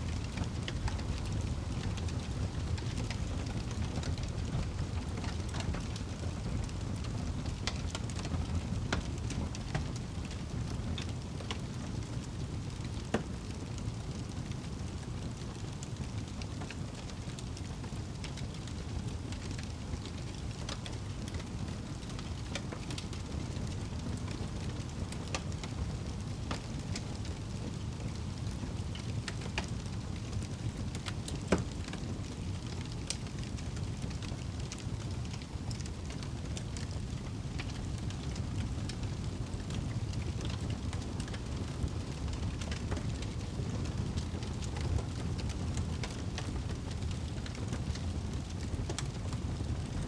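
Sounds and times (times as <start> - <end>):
fire crackles and pops: 0.0 - 50.0
wood fire rumbling: 0.0 - 50.0.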